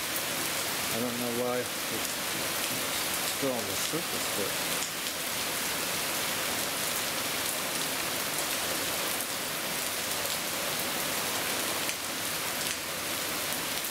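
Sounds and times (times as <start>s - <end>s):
heavy rain on pavement: 0.0s - 13.9s.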